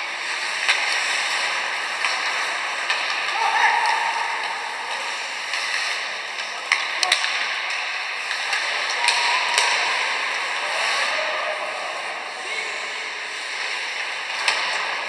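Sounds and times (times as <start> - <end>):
crowd voices: 0.0 - 15.0
hockey sticks and puck clacking: 0.0 - 15.0.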